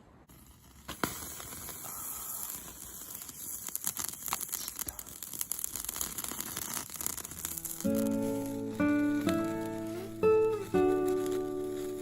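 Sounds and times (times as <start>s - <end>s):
campfire crackling and hissing: 0.2s - 12.0s
fire popping: 0.2s - 12.0s.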